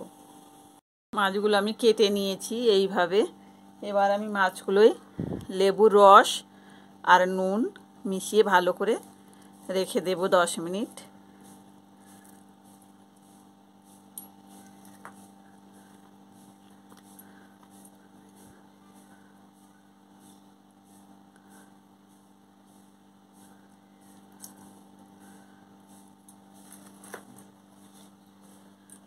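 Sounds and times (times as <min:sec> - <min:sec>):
faint mains hum: 0:00.0 - 0:29.0.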